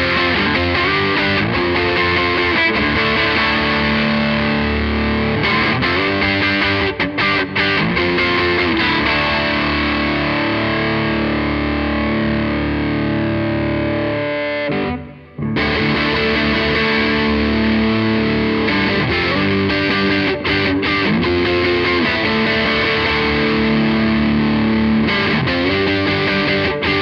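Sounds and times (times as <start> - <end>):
distorted electric guitar chords: 0.0 - 27.0.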